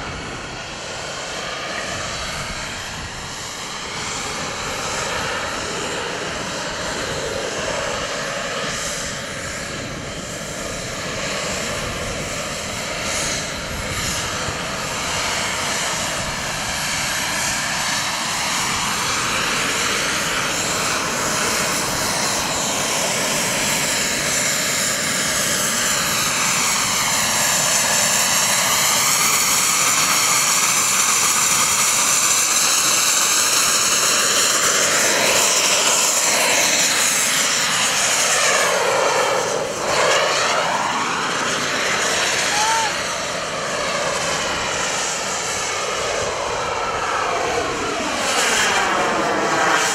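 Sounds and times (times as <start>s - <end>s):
model jet engines whining: 0.0s - 49.9s.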